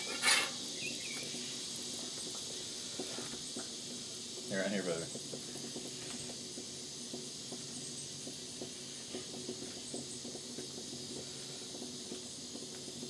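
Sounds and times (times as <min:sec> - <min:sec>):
batter sizzling on a griddle: 0:00.0 - 0:13.0.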